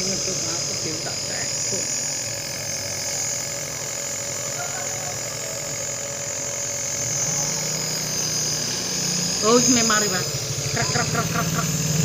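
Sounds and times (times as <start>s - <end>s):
nebulizer motor hum: 0.0s - 12.0s.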